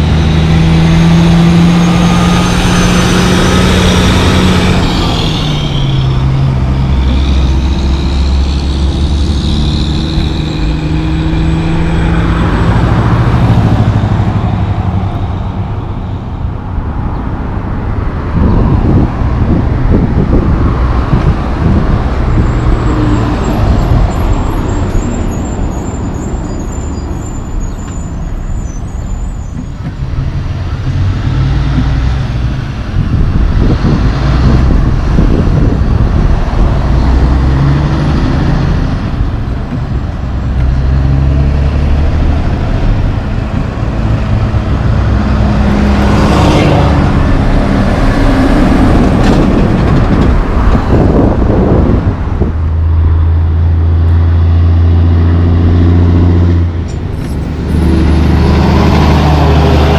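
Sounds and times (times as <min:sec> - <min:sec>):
diesel trucks driving past: 0:00.0 - 0:59.9
road traffic passing: 0:00.0 - 0:59.9.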